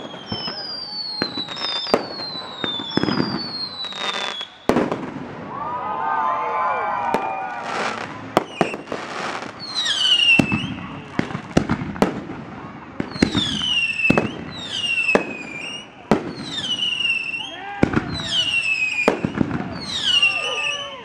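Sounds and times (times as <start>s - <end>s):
firework whistles: 0.0s - 5.5s, 6.9s - 11.8s, 13.0s - 21.0s.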